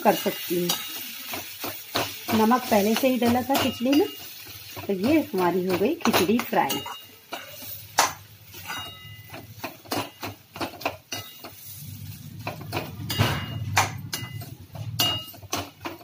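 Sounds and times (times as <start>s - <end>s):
metal ladle scraping a metal pan: 0.1s - 16.0s.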